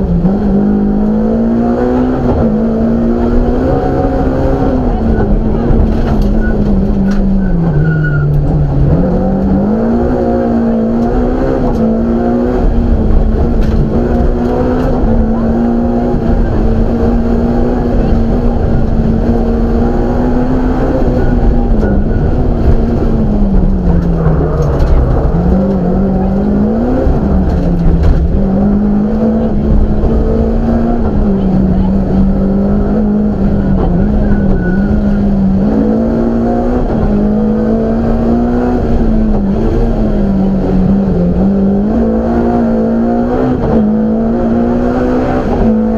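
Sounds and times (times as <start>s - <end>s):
car engine at full throttle: 0.0s - 45.9s
tyre and road noise: 0.0s - 45.9s.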